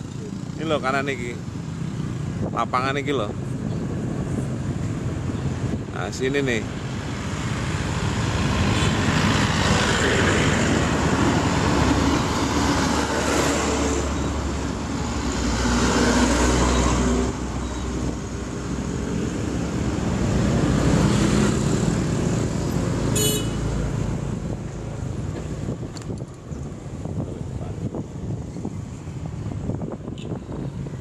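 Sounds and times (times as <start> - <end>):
road traffic engines: 0.0 - 31.0
tyres on asphalt: 0.0 - 31.0.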